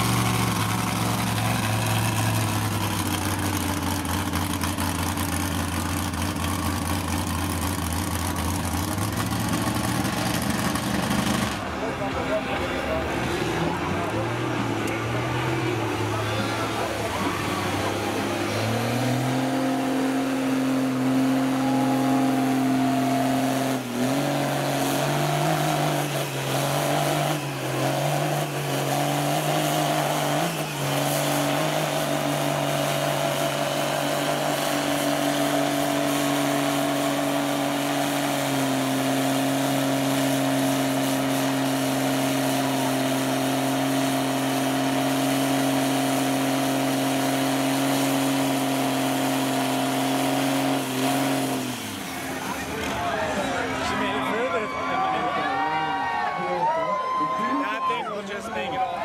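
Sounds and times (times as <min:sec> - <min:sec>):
truck engine running: 0:00.0 - 0:56.6.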